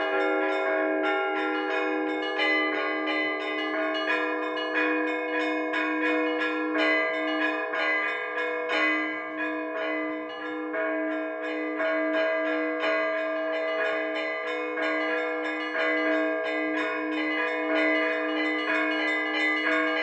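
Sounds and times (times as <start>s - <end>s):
small church bells pealing: 0.0s - 20.0s.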